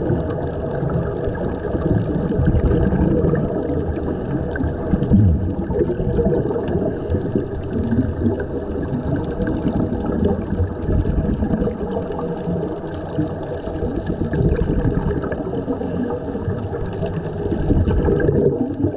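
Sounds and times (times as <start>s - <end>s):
muffled underwater air bubbling: 0.0s - 18.9s.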